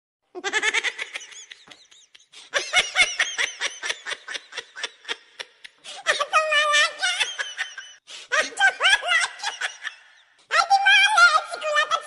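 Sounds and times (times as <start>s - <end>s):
high-pitched laughter: 0.4s - 10.3s.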